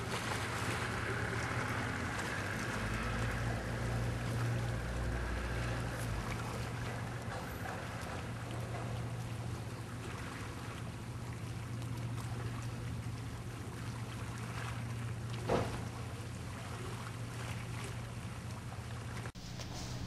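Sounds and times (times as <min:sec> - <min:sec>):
low constant hum: 0:00.0 - 0:20.0.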